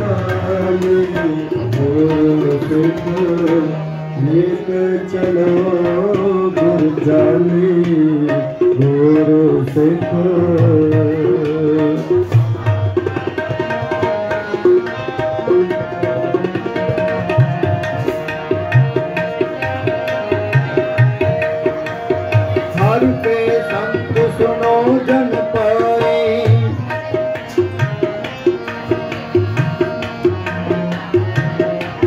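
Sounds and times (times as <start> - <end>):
tabla playing: 0.0 - 32.0.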